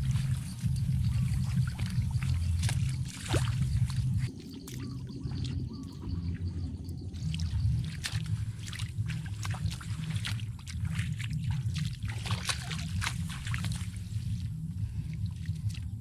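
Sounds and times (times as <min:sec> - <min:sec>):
bare feet splashing in water: 0:00.0 - 0:16.0
low rumble: 0:00.0 - 0:16.0.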